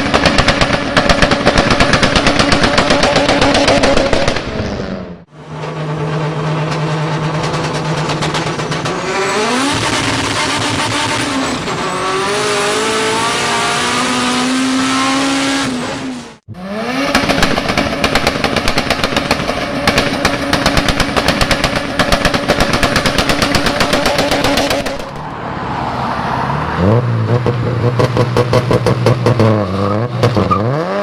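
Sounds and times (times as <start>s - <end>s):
car engine revving hard: 0.0s - 25.2s, 26.5s - 31.0s
engine bouncing off rev limiter: 0.0s - 25.3s, 26.6s - 31.0s.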